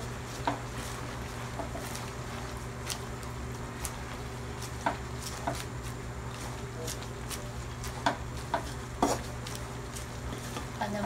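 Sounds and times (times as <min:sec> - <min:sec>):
faint sizzling: 0:00.0 - 0:11.0
wooden spatula stirring leaves: 0:00.0 - 0:11.0.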